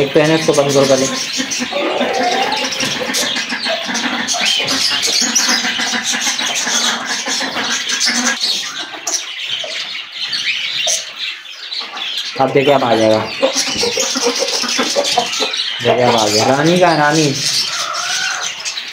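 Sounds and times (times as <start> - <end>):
caged birds chirping: 0.0 - 18.9.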